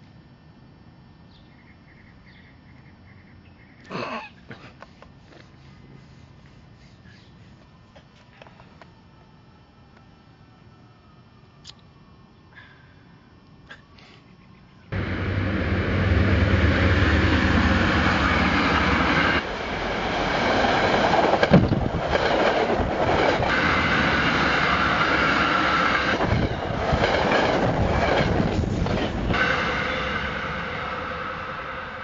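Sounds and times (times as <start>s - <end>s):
train engine humming: 4.5s - 32.0s.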